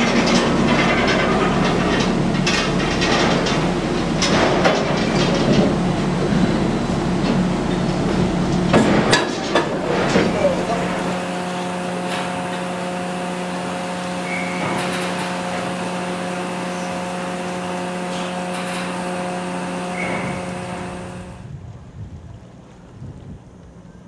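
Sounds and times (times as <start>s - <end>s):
ferry machinery hum: 0.0s - 21.6s.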